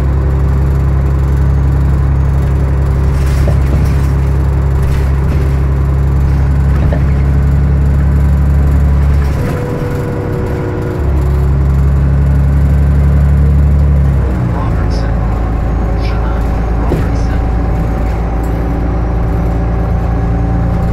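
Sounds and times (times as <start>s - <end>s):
bus diesel engine drone: 0.0s - 20.9s
road noise: 0.0s - 20.9s.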